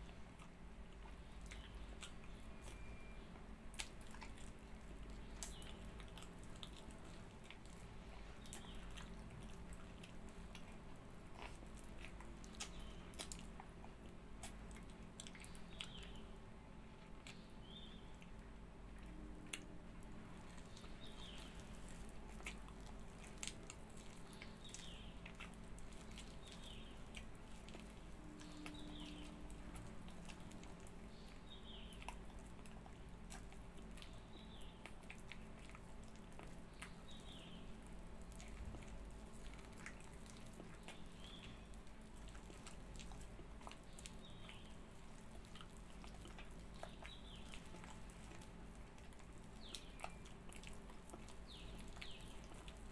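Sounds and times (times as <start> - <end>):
wet chewing and sucking: 0.0 - 16.3, 17.0 - 52.9.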